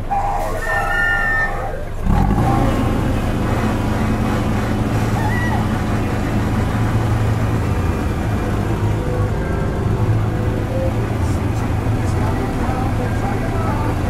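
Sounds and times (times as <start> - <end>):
locomotive drone: 0.0 - 14.0
train cars rumbling on track: 0.0 - 14.0.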